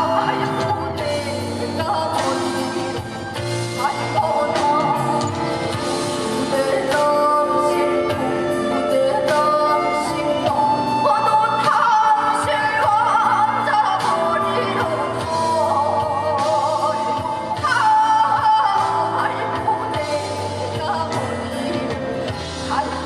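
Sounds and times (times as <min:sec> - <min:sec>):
band accompaniment: 0:00.0 - 0:23.0
woman singing with vibrato: 0:00.0 - 0:23.0.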